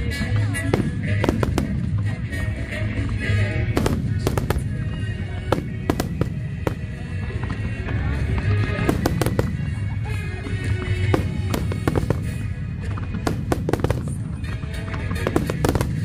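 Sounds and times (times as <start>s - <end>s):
fireworks bursts and crackles: 0.0s - 16.0s
music playing: 0.0s - 16.0s.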